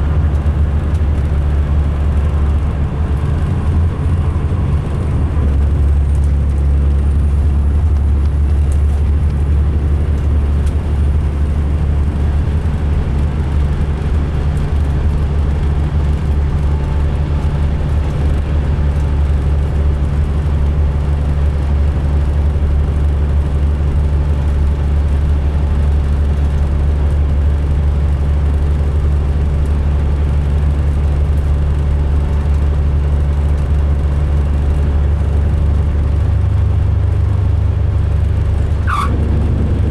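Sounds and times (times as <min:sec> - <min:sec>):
diesel coach engine drone: 0:00.0 - 0:39.9.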